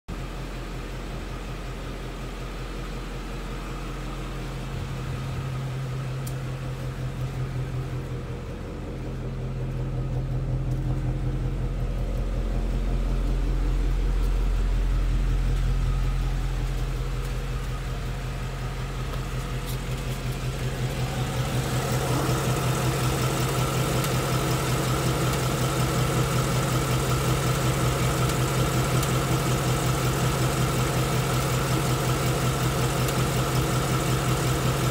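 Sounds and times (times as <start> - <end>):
car engine idling with ticking: 0.1 - 34.9.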